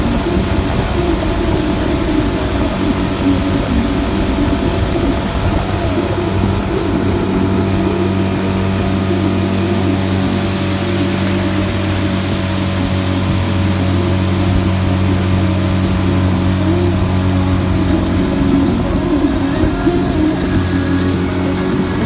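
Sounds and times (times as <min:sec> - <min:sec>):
boat motor humming: 0:00.0 - 0:22.0
broad rushing noise: 0:00.0 - 0:22.0.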